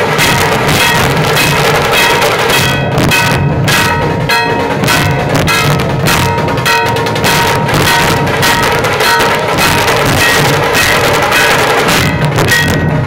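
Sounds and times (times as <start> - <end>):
barrel drums beating: 0.0 - 13.0
metal gong ringing: 0.0 - 13.0.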